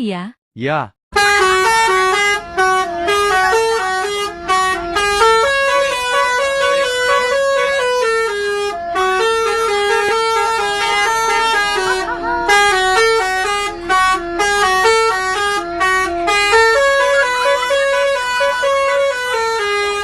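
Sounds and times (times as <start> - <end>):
musical air horn tune: 1.2 - 20.0.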